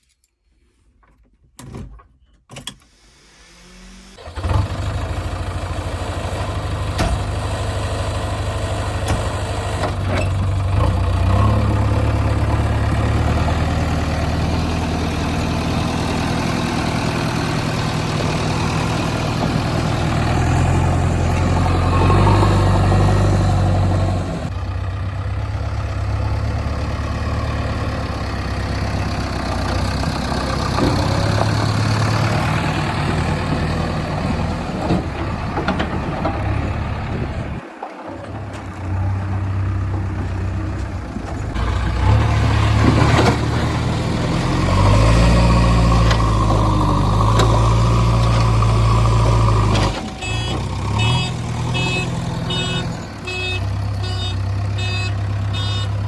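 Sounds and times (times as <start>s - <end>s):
diesel engine starting and running: 2.6s - 56.0s.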